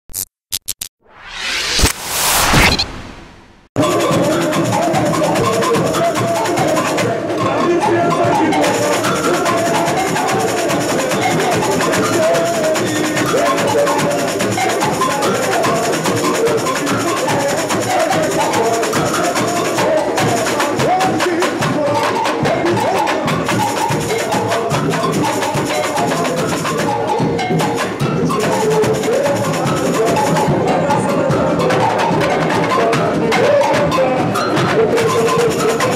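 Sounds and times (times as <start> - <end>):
samba drums and percussion: 3.8 - 35.9.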